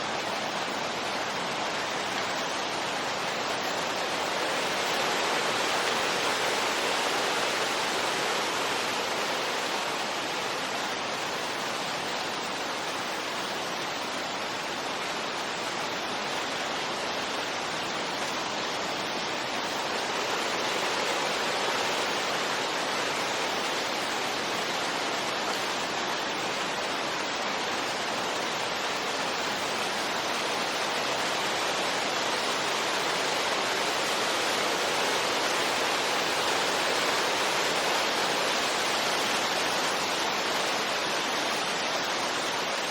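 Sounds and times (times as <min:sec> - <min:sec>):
steady rushing wind: 0:00.0 - 0:42.9.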